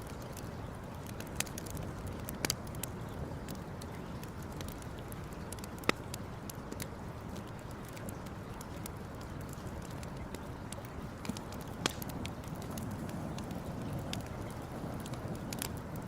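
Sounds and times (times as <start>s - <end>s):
campfire crackling: 0.0s - 16.0s
low fire rumble: 0.0s - 16.0s.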